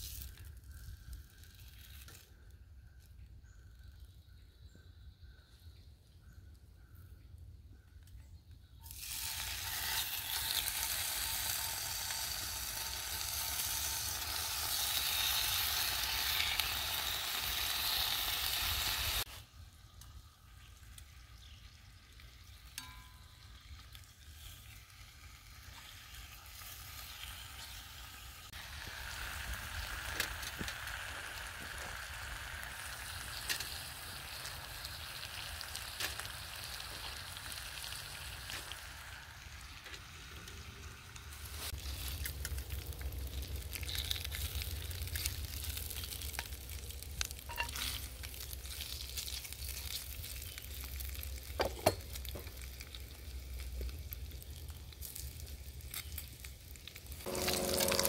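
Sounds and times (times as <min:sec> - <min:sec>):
bacon sizzling in a skillet: 0:08.8 - 0:58.0.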